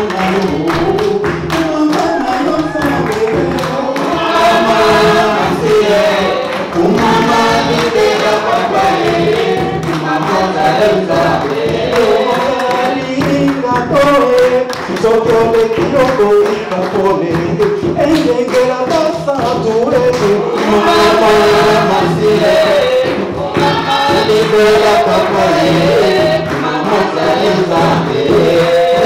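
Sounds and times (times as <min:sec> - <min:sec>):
group singing a worship song: 0:00.0 - 0:29.0.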